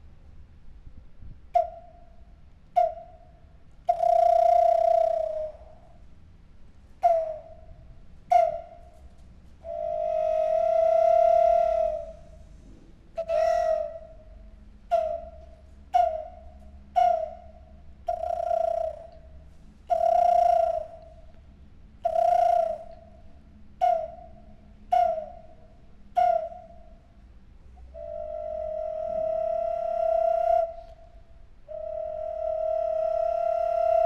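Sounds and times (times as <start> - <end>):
whistling wind instrument notes: 1.5 - 2.2, 2.8 - 3.3, 3.9 - 6.0, 7.0 - 12.5, 13.2 - 19.3, 19.9 - 21.2, 22.0 - 27.0, 27.8 - 34.0.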